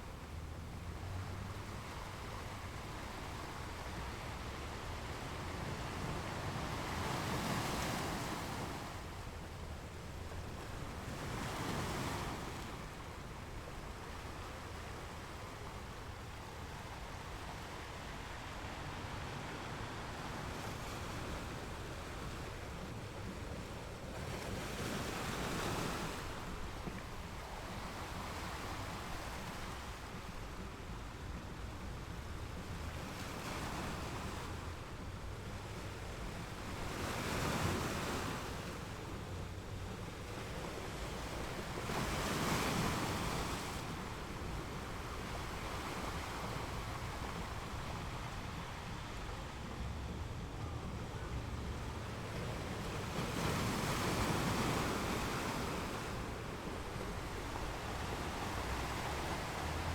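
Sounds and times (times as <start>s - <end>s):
ocean waves washing onto beach: 0.0s - 59.9s.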